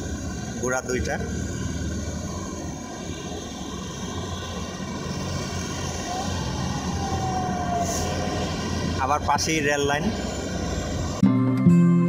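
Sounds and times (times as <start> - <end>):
road traffic rumble: 0.0 - 11.2.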